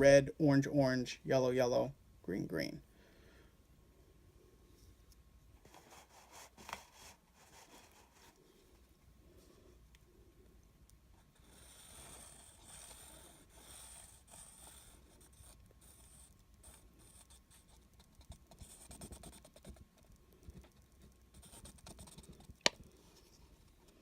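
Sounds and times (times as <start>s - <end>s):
faint scratching and handling: 4.6s - 24.0s.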